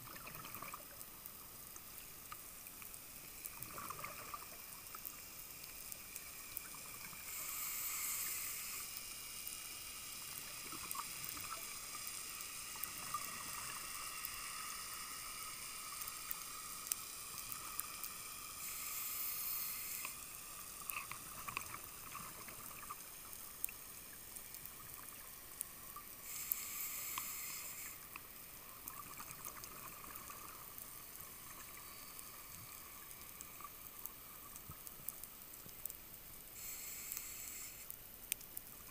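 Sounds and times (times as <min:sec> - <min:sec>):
faint underwater hiss: 0:00.0 - 0:38.9.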